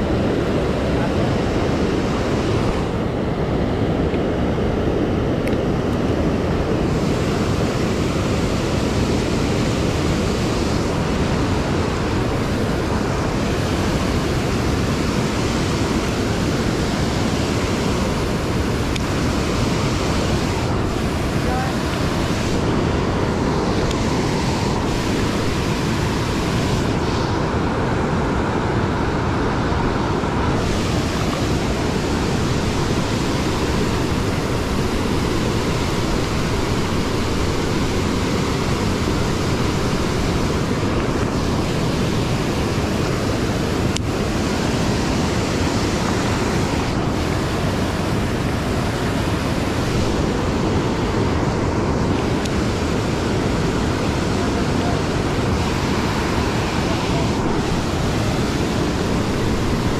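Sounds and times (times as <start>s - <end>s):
river water rushing over weir: 0.0s - 59.9s.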